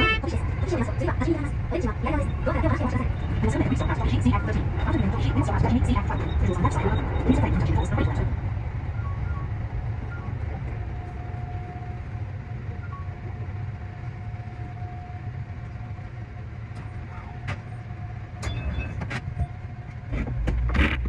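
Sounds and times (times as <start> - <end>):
electric train rumbling: 0.0 - 21.0
faint steady whine: 0.0 - 21.0.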